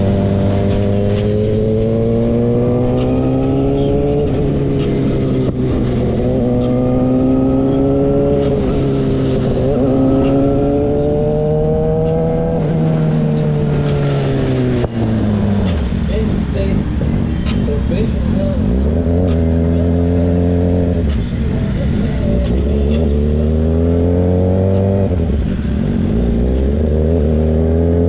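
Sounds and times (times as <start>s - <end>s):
motorcycle engine: 0.0s - 28.0s
road and wind noise: 0.0s - 28.0s.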